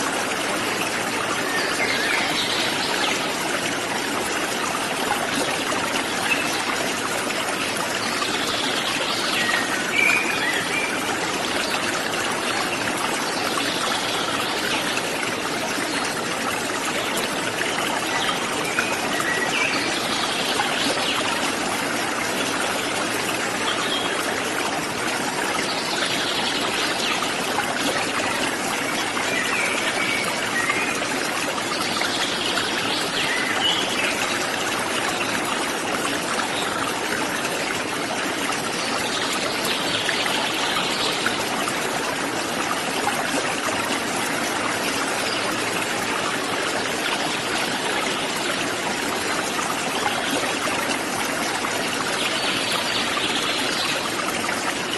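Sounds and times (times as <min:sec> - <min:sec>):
water running over waterfall: 0:00.0 - 0:54.9.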